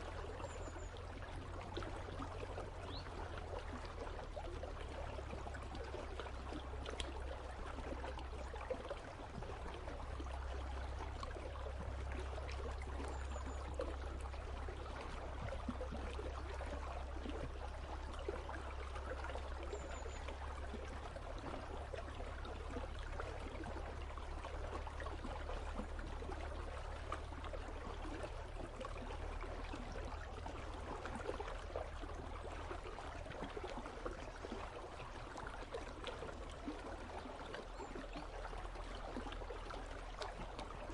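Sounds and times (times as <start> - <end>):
low steady rumble: 0.0 - 40.9
river water flowing and trickling: 0.0 - 40.9.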